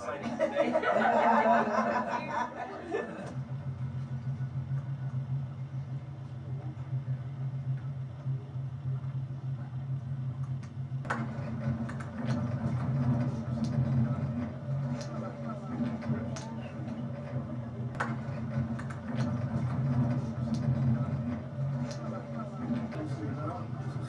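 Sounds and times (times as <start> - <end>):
train carriage drone: 0.0 - 24.0.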